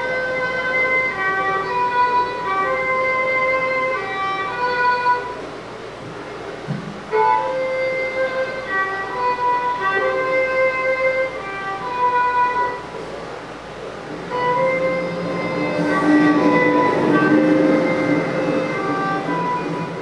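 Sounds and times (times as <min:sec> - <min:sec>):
violin playing slow melody: 0:00.0 - 0:05.5, 0:07.1 - 0:13.0, 0:14.0 - 0:20.0.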